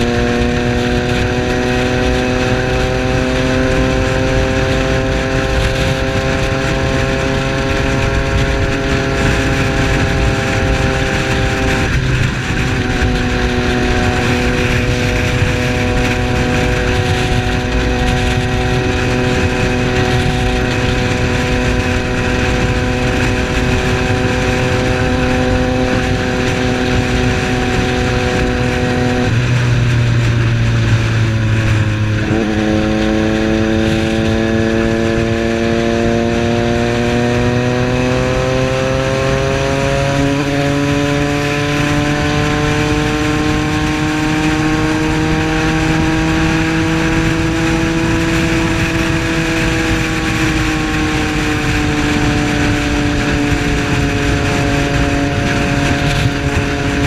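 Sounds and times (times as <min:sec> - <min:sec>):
motorcycle engine running: 0:00.0 - 0:57.0
wind rushing: 0:00.0 - 0:57.0.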